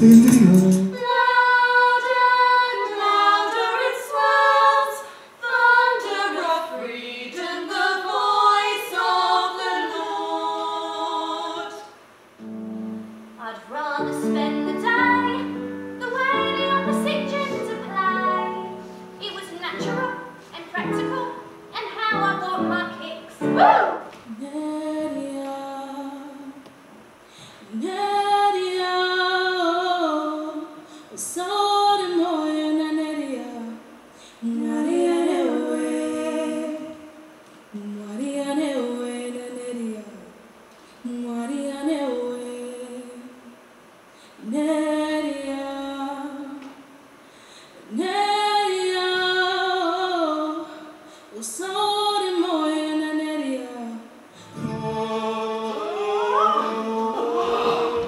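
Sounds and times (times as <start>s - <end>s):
women singing held notes: 0.0s - 40.3s, 47.8s - 58.0s.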